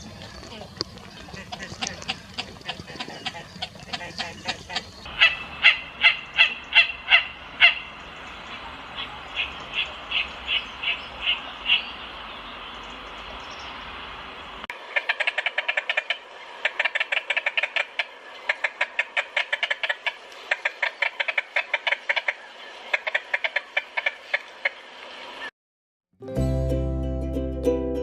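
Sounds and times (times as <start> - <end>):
steady outdoor hiss: 0.0 - 25.5.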